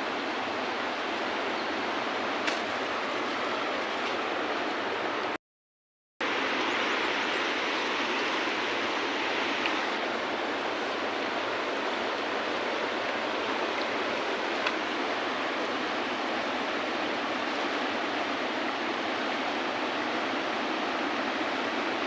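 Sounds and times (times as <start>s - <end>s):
river water rushing: 0.0s - 5.4s, 6.2s - 22.0s.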